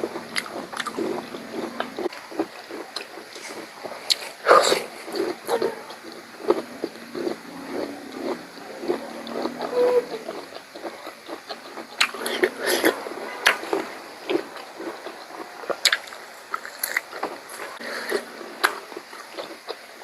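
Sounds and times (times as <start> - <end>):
chewing and mouth smacks: 0.0 - 20.0
sharp clicks and crunches: 0.0 - 20.0.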